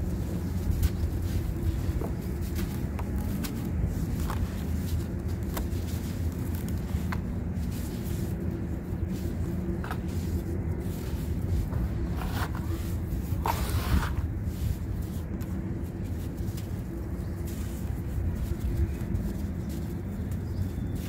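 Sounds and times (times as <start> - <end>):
dry sand crumbling: 0.0 - 21.0.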